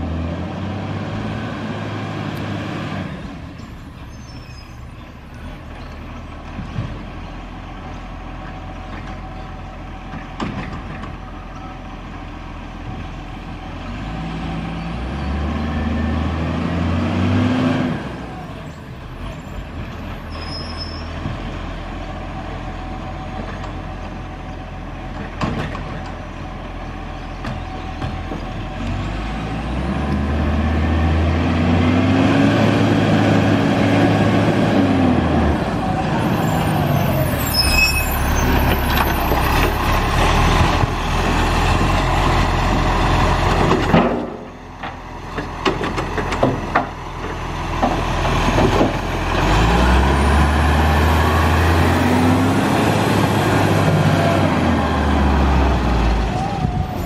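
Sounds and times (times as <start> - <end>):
garbage truck engine idling and revving: 0.0 - 57.0.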